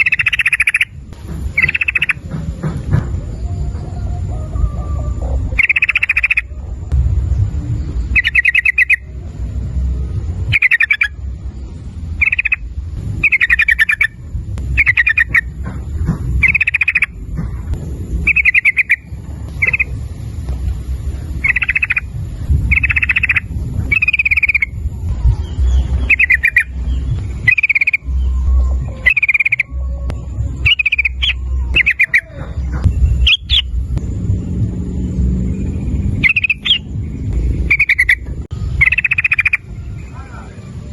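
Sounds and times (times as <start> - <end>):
bulbul calling: 0.0 - 6.8, 7.9 - 9.4, 10.3 - 34.0, 35.4 - 40.4
low rumble: 0.0 - 40.9.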